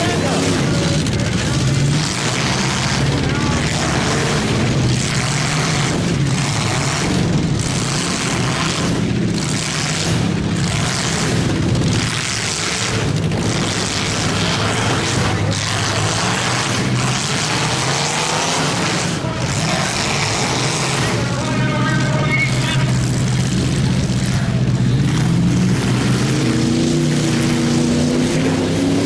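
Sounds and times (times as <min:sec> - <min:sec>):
car engines running loudly: 0:00.0 - 0:29.0.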